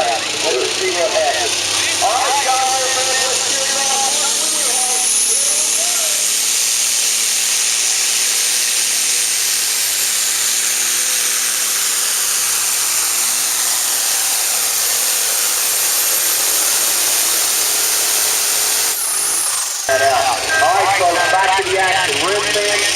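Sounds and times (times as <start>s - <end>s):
diesel tractor engine blaring: 0.0s - 22.9s.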